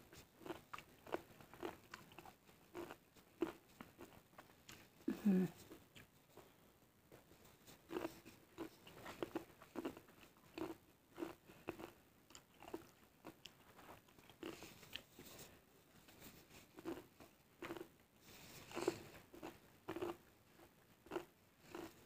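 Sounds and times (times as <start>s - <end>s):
chewing crunchy crackers: 0.1s - 4.9s, 7.8s - 15.1s, 16.5s - 22.0s.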